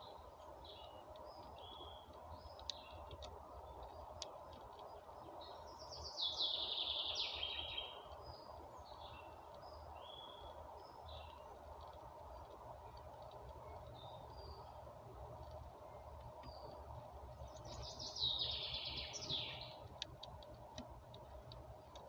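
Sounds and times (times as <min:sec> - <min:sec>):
background hiss: 0:00.0 - 0:22.0
songbirds chirping: 0:00.0 - 0:22.0
faint sharp clicks: 0:00.2 - 0:22.0.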